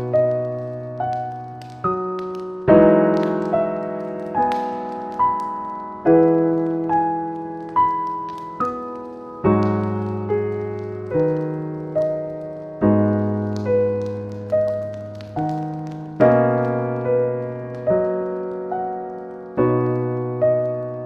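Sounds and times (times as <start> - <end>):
fireplace crackling: 0.0 - 21.0
slow solo piano: 0.0 - 21.0.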